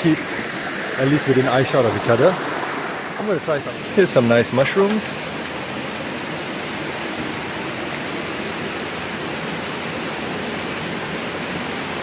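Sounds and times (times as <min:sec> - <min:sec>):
river running over rocks: 0:00.0 - 0:12.0.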